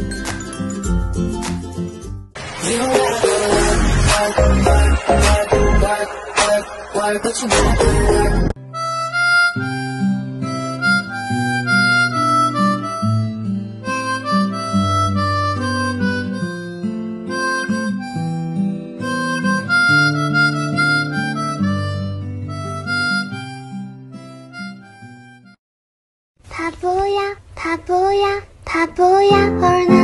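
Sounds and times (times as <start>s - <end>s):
instrumental background music: 0.0s - 25.6s.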